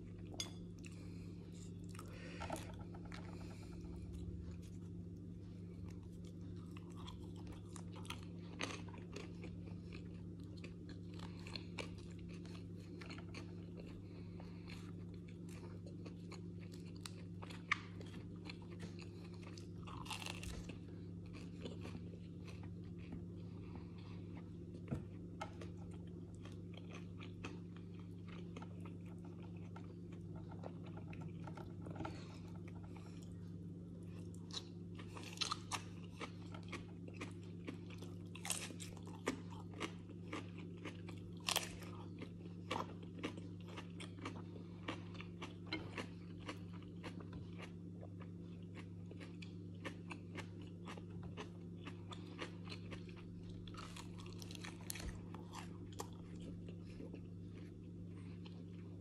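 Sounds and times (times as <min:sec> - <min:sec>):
chewing: 0:00.0 - 0:59.0
steady low hum: 0:00.0 - 0:59.0
crunching fried flatbread: 0:02.0 - 0:59.0.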